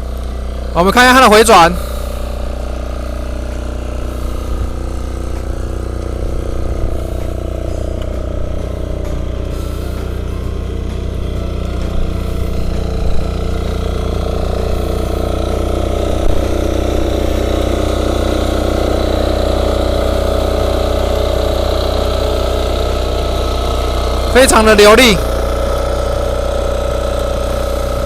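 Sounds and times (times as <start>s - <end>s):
cultivator engine running under load: 0.0s - 28.0s.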